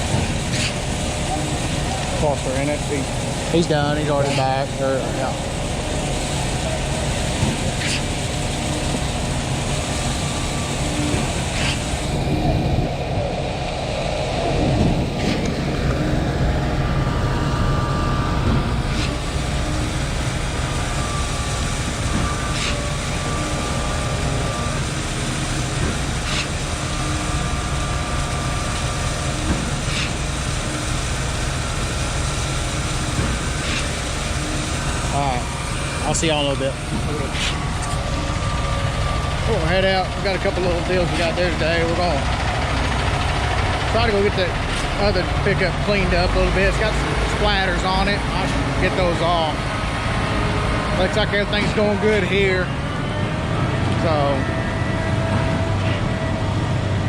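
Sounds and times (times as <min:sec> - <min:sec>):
concrete pump truck running: 0:00.0 - 0:57.0.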